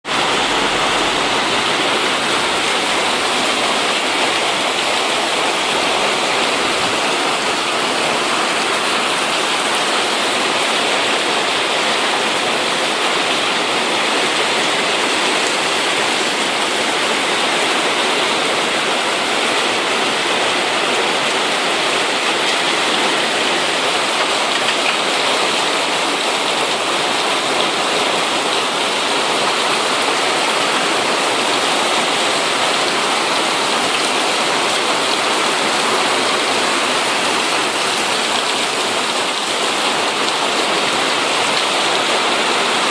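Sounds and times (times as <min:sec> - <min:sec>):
heavy rain downpour: 0:00.0 - 0:42.9.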